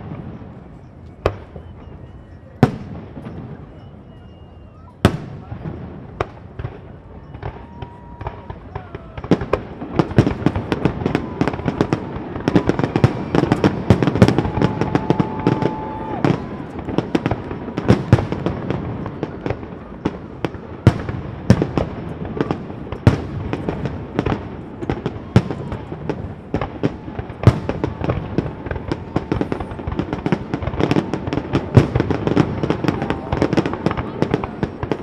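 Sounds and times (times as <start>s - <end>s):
fireworks bangs: 0.0s - 35.0s
fireworks crackle and rumble: 0.0s - 35.0s.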